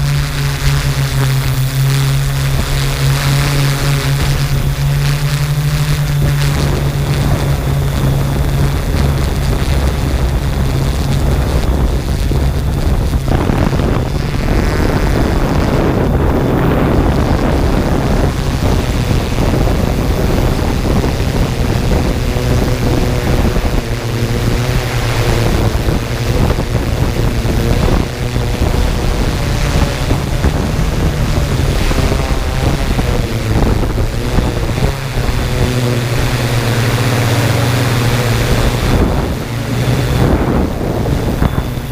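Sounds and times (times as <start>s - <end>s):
drone propellers and motors: 0.0s - 41.9s
wind noise on microphone: 0.0s - 41.9s.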